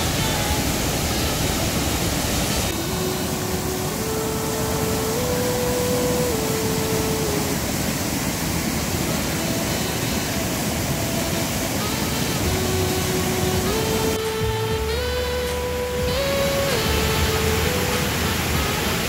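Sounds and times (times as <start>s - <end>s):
faint held notes: 0.0s - 19.0s
rocky mountain stream rushing: 0.0s - 19.0s.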